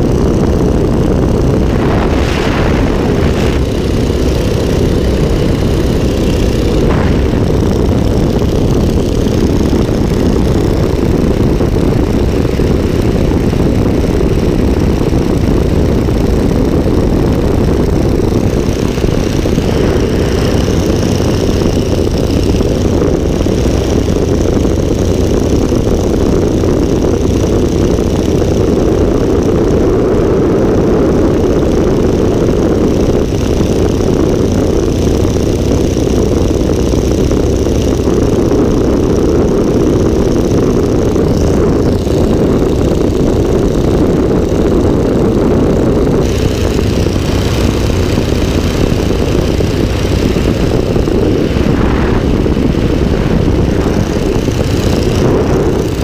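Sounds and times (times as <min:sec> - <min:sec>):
biplane engine and propeller: 0:00.0 - 0:56.0
wind rushing past microphone: 0:00.0 - 0:56.0.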